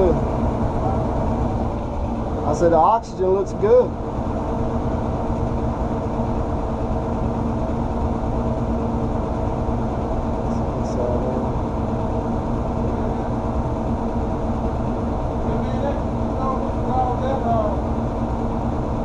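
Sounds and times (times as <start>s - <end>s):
gas furnace burners firing: 0.0s - 19.0s
motor hum: 0.0s - 19.0s.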